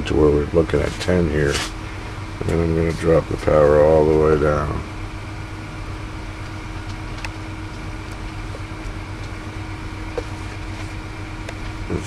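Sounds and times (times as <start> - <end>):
equipment hum and hiss: 0.0 - 12.0.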